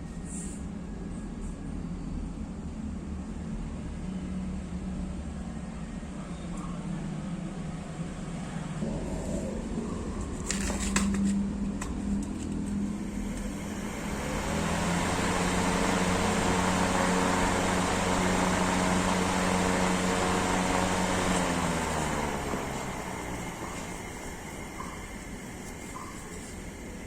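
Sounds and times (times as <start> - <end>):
exhaust fan motor hum: 0.0 - 27.0.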